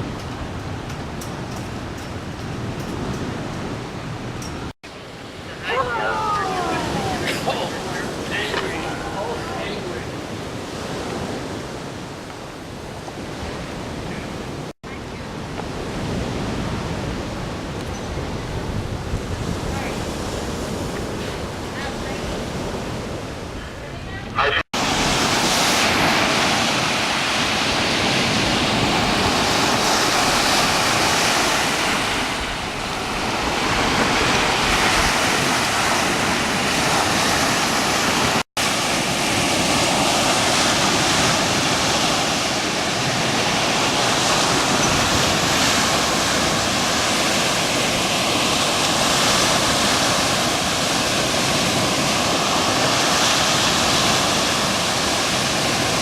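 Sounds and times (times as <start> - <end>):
waves splashing: 0.0 - 56.0
wind buffeting microphone: 5.4 - 56.0.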